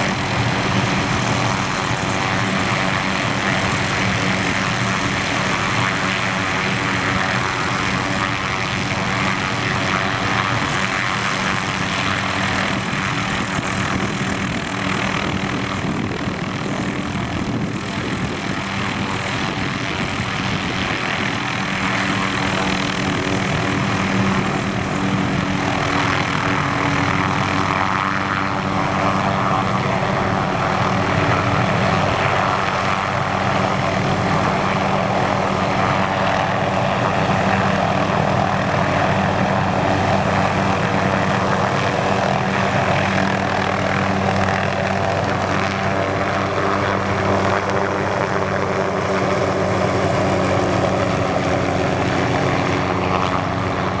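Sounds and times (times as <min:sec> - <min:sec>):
helicopter taking off: 0:00.0 - 0:54.0.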